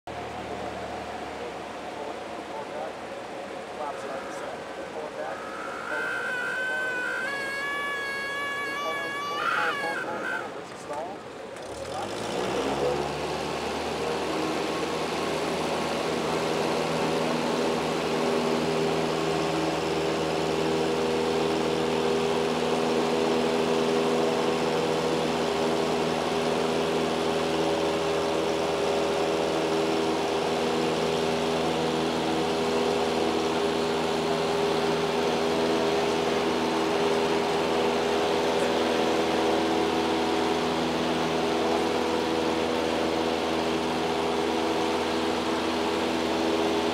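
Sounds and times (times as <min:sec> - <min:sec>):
light airplane engine and propeller: 0:00.1 - 0:46.9.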